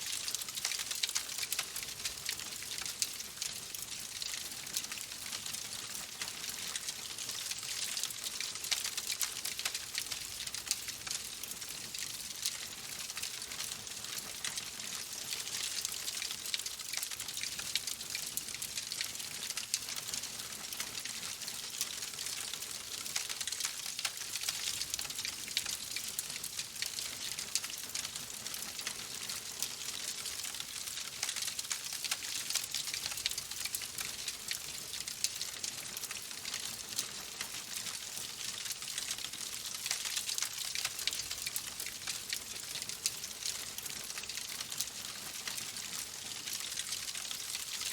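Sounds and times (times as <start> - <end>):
wood fire crackling: 0.0 - 10.8, 12.2 - 47.9.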